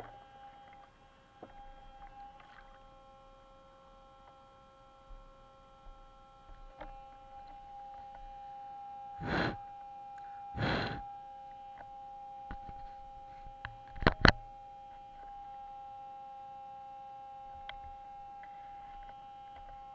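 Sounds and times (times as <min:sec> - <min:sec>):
faint electronic whine: 0:00.0 - 0:19.9.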